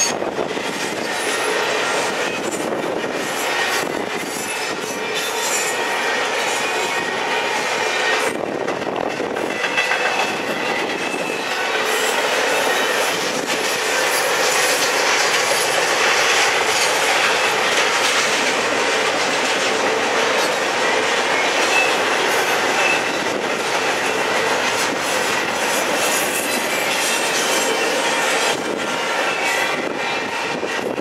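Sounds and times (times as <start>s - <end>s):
steel wheels rolling on rail: 0.0s - 31.0s.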